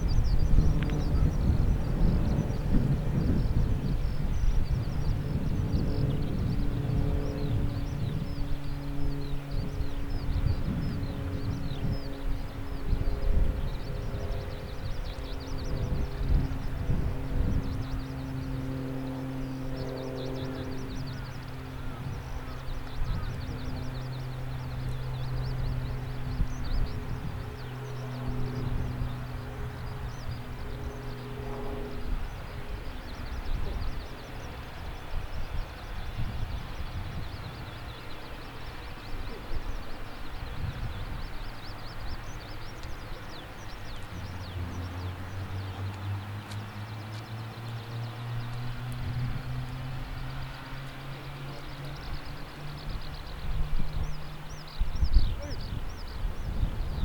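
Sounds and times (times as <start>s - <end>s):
birds chirping: 0.0s - 57.0s
helicopter running: 0.0s - 57.0s.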